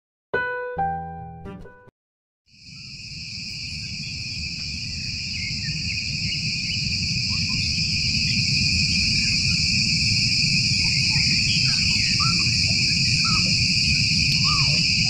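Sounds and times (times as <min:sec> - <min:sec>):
insect chorus: 0:02.5 - 0:15.0.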